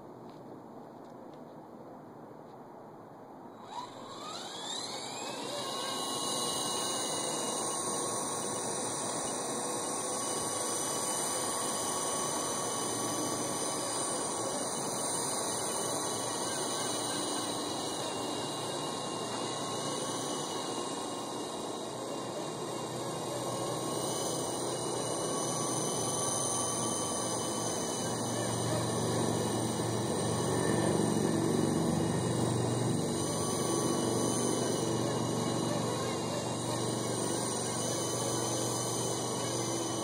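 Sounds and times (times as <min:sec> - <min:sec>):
helicopter motor whine: 0:03.5 - 0:40.0.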